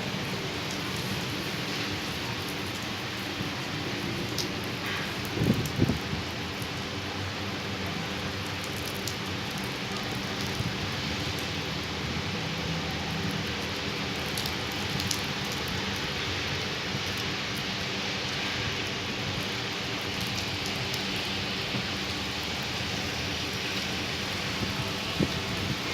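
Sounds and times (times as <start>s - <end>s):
rain falling steadily: 0.0s - 25.9s.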